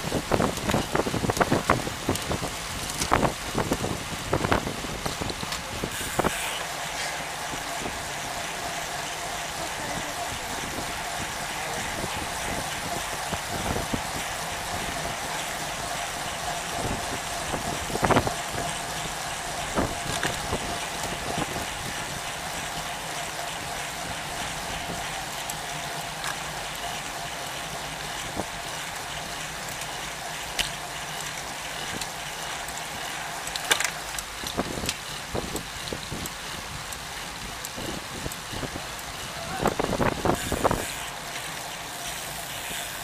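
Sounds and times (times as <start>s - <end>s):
bicycle tyre and wind noise: 0.0s - 43.0s.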